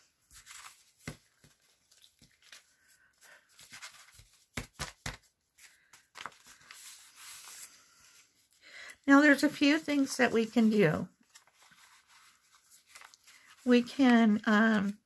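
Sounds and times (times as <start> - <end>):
paper rustling and crinkling: 0.0 - 8.6, 9.2 - 15.0.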